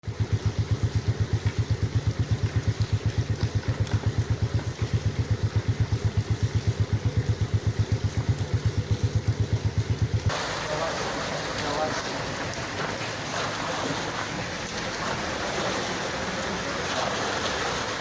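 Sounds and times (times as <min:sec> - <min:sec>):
engine throbbing: 0:00.0 - 0:18.0.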